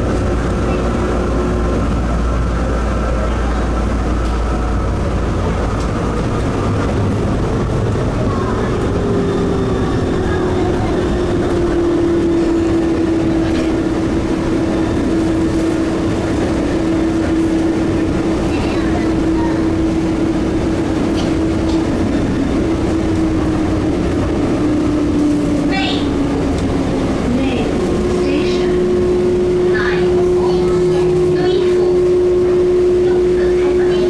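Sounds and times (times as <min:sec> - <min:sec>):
train tyres rumbling on concrete: 0:00.0 - 0:34.0.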